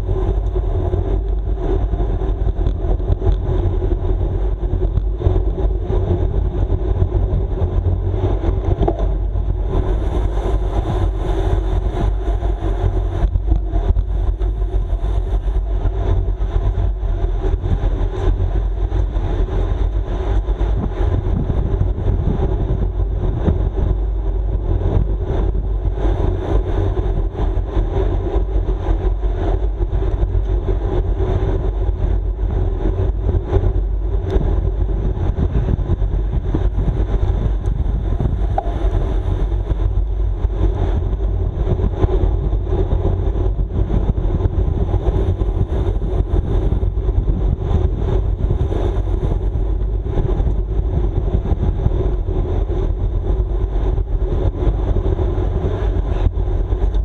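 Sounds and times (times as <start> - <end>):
bicycle tyre and drivetrain noise: 0.0 - 57.0
wind buffeting microphone: 0.0 - 57.0.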